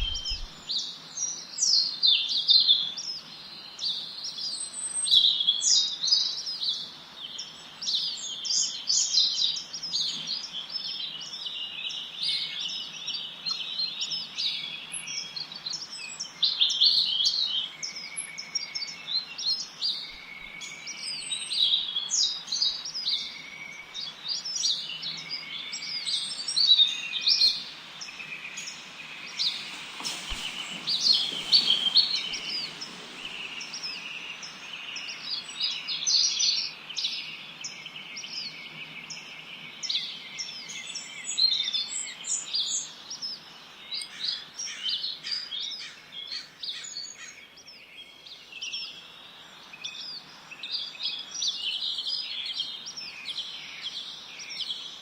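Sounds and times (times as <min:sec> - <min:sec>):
background hiss: 0:00.0 - 0:45.5
songbirds chirping: 0:00.0 - 0:55.0.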